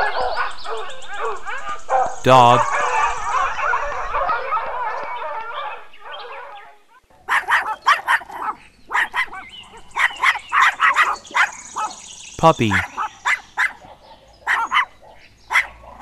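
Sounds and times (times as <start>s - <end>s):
dogs yapping: 0.0s - 12.0s, 12.8s - 16.0s
sled dogs yelping and whining: 0.0s - 12.0s, 12.9s - 16.0s.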